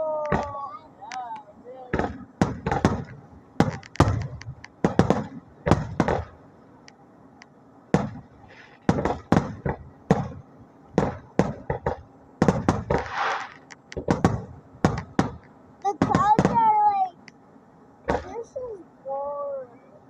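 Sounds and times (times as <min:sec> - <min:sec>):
fireworks bursting: 0:00.0 - 0:19.9.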